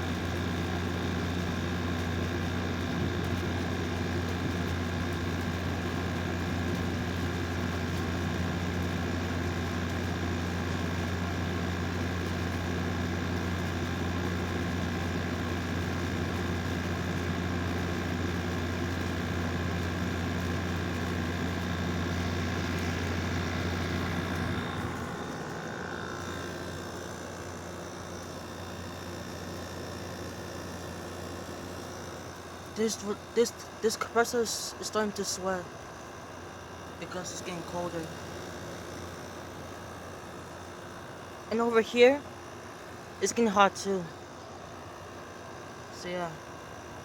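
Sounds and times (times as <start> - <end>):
air conditioner hum and drone: 0.0 - 47.0.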